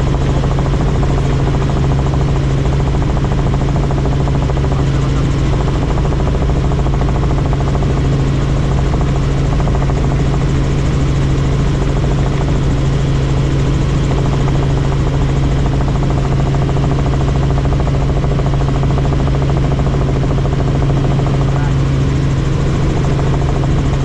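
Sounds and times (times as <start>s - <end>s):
helicopter rotor and engine drone: 0.0s - 24.0s.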